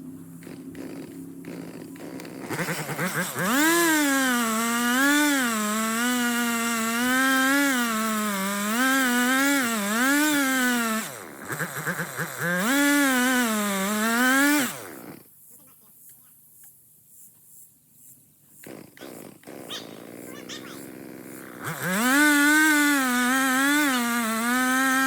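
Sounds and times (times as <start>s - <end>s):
chainsaw revving: 0.0s - 15.3s, 18.5s - 25.0s.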